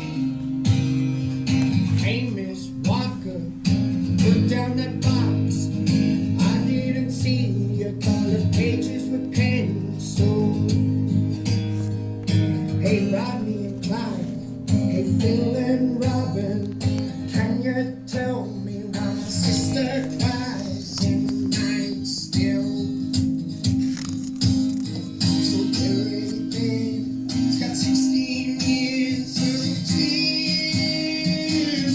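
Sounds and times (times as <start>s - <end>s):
strummed acoustic guitar: 0.0s - 31.9s
young man singing: 1.5s - 23.8s, 24.7s - 31.9s.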